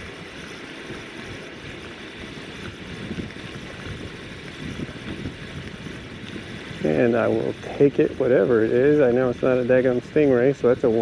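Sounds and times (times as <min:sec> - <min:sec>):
fishing reel winding whir: 0:00.0 - 0:11.0
steady low rumble: 0:00.0 - 0:11.0.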